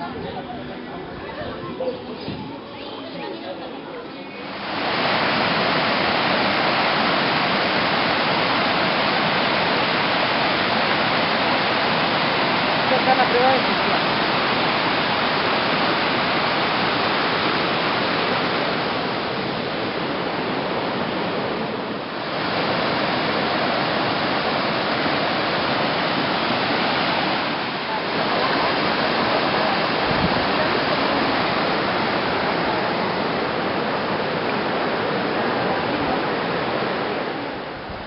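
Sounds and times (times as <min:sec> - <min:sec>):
water rushing over cascades: 0:03.8 - 0:38.0.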